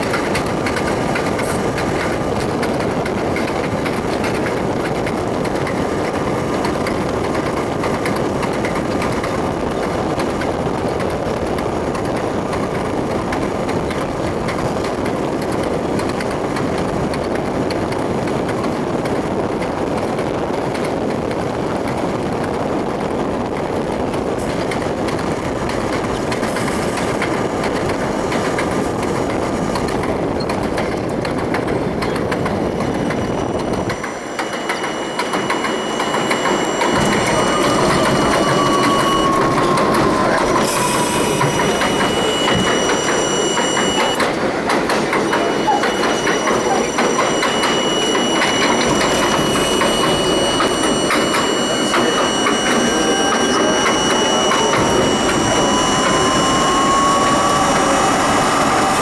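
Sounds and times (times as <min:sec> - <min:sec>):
thin high whine: 0:00.0 - 0:16.0, 0:22.3 - 0:59.0
subway wheels rumbling on rail: 0:00.0 - 0:59.0
wheels clickety-clack: 0:00.0 - 0:59.0.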